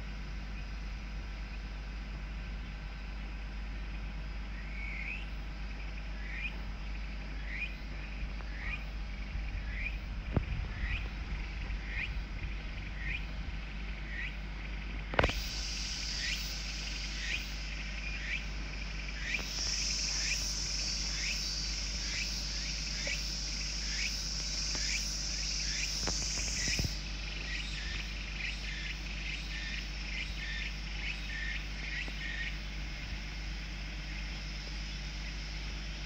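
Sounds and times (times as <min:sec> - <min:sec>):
insect chirps: 0:00.0 - 0:36.0
insects buzzing: 0:00.0 - 0:36.0.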